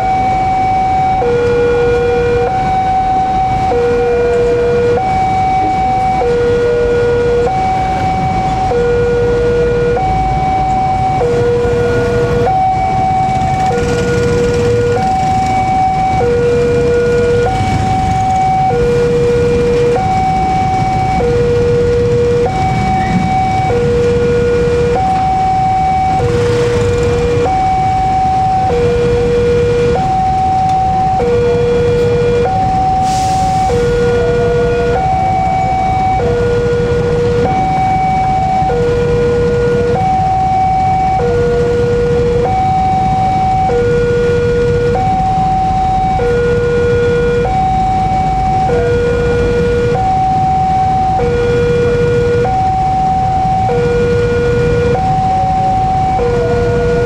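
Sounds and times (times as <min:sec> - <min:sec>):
engines idling: 0:00.0 - 0:57.0
level crossing two-tone alarm: 0:00.0 - 0:57.0
road traffic rumble: 0:00.0 - 0:57.0.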